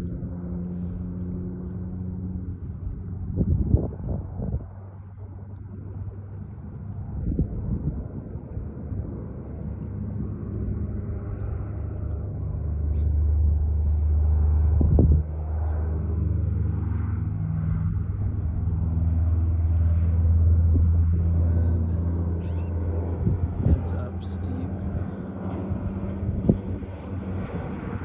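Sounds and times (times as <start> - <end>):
turboprop aircraft droning overhead: 0.0 - 28.0.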